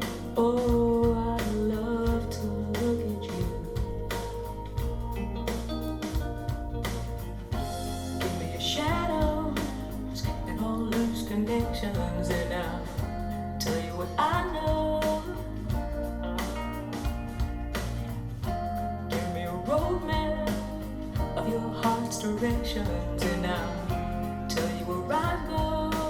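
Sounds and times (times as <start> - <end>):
song over speakers: 0.0 - 26.0.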